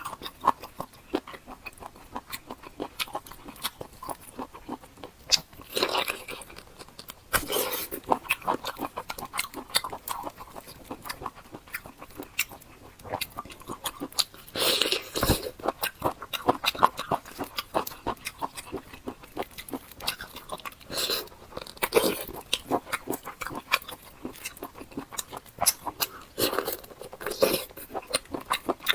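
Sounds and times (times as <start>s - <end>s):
wet chewing with mouth clicks: 0.0s - 28.9s.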